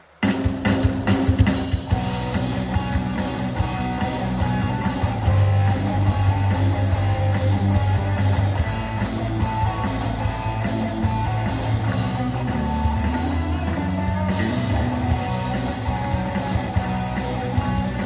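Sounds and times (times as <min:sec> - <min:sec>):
distorted electric guitars: 0:00.0 - 0:18.0
drum kit: 0:00.0 - 0:18.0
bass guitar: 0:00.2 - 0:18.0.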